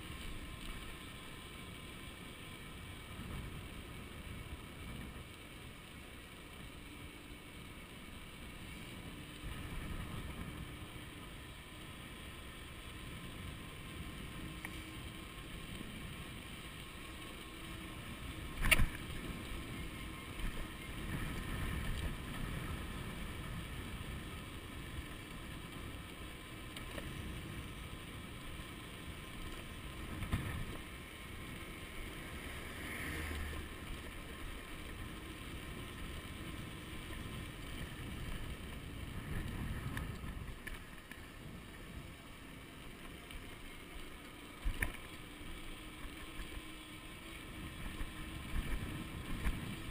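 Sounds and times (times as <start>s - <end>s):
faint steady tones: 0.0s - 49.9s.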